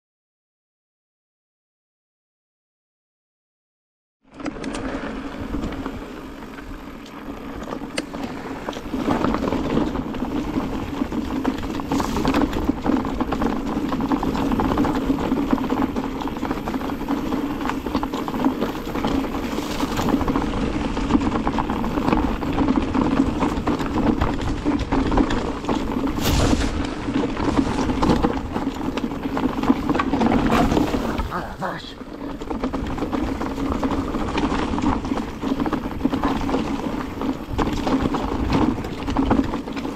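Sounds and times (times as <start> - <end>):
bike tyres rolling on dirt: 4.2 - 39.9
bike knocks and rattles: 4.4 - 31.3, 32.1 - 39.9.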